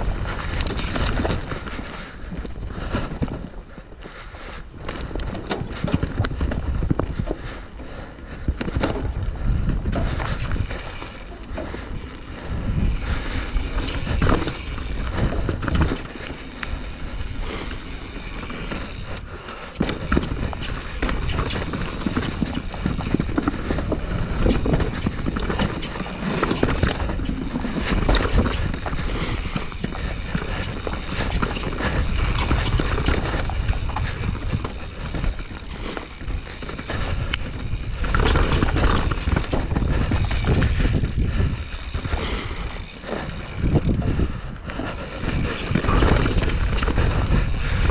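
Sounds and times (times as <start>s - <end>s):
bike rattling and knocking: 0.0s - 47.9s
tyres rolling over trail: 0.0s - 47.9s.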